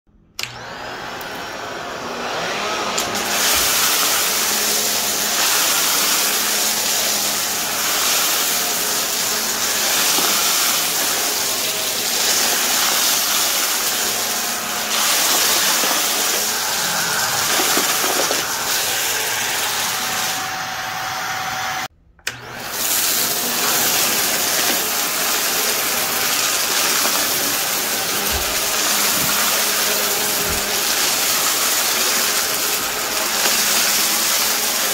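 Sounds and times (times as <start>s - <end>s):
vacuum cleaner running: 0.3s - 34.9s.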